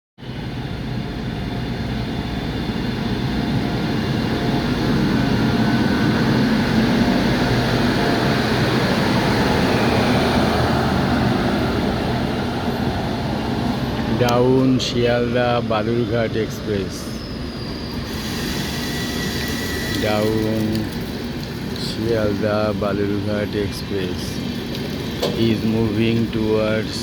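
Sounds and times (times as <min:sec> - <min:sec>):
train wheels rumbling on rails: 0:00.3 - 0:27.0.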